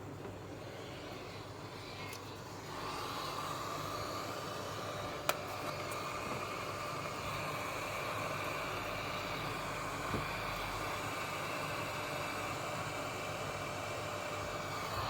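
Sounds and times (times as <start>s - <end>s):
hot air station blowing: 0.0s - 15.0s.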